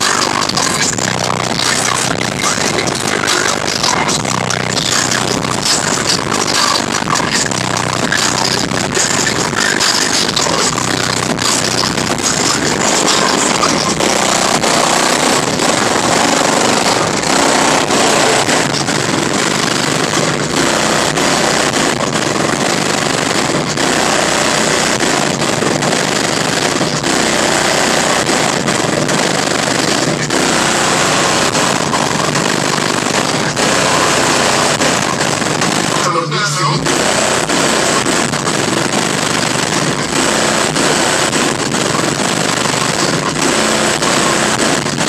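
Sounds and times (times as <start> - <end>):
loud distorted car stereo music: 0.0 - 45.0.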